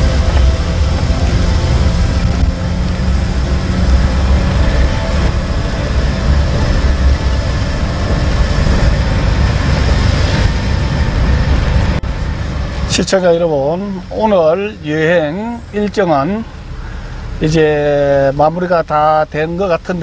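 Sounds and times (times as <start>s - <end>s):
vehicle engine and tyres rumbling: 0.0s - 20.0s.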